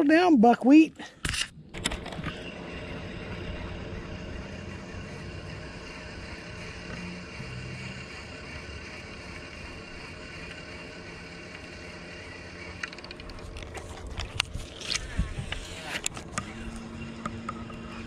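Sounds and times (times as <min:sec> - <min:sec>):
electric trolling motor humming: 0:01.2 - 0:18.0.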